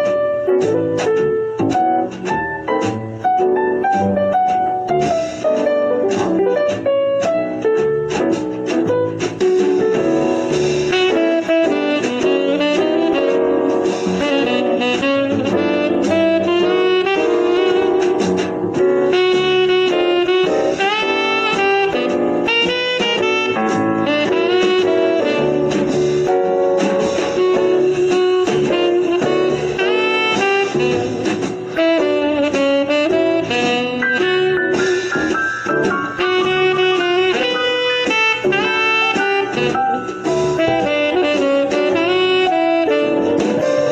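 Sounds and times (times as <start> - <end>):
jazz music with saxophone: 0.0 - 43.9.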